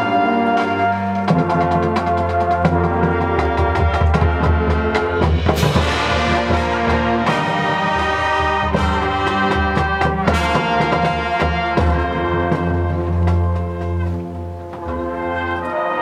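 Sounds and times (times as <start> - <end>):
percussion accents: 0.0 - 15.8
marching band playing: 0.0 - 16.0.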